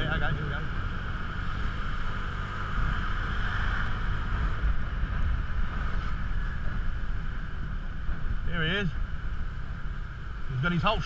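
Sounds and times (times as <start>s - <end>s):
wind rush on microphone: 0.8s - 11.0s.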